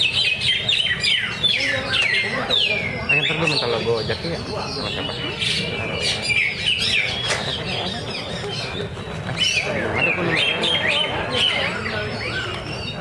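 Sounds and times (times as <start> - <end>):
bird chirping and whistling: 0.0 - 3.8, 4.4 - 13.0.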